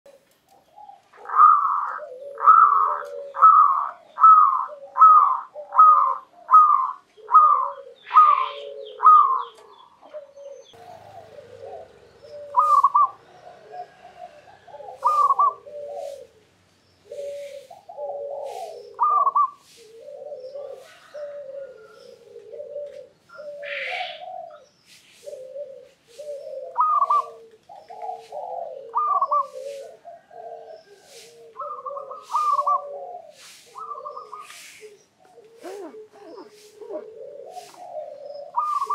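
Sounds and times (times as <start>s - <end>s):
dove cooing: 0.1s - 38.9s.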